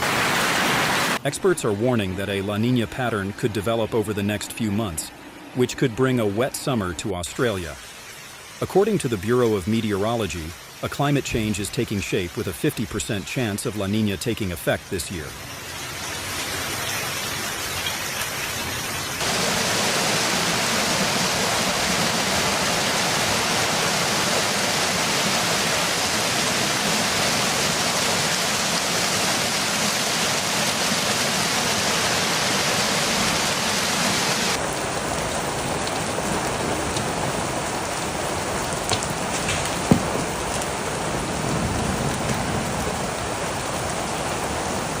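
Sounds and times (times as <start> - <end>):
heavy rain pouring: 0.0 - 1.3, 5.4 - 45.0.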